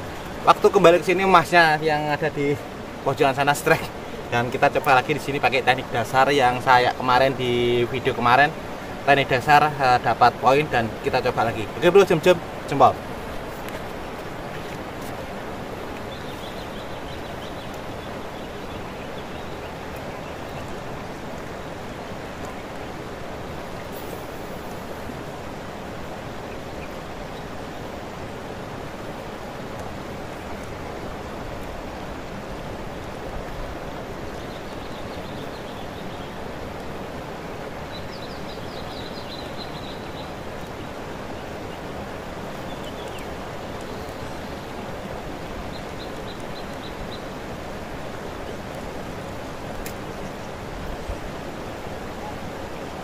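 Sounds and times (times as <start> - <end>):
rushing outdoor ambience: 0.0 - 53.0.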